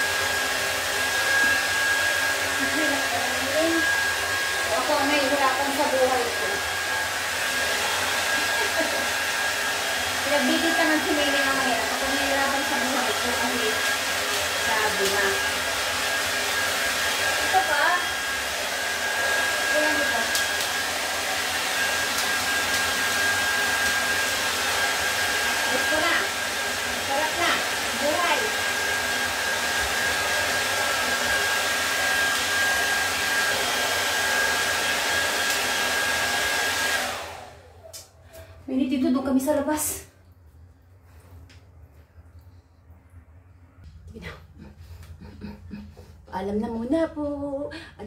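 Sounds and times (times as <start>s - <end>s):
hair dryer blowing with whine: 0.0s - 40.0s.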